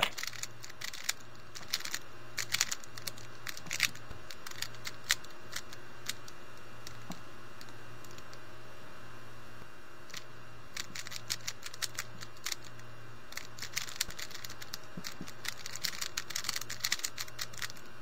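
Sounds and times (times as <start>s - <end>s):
puzzle cube clicking: 0.0s - 8.3s, 10.8s - 17.9s.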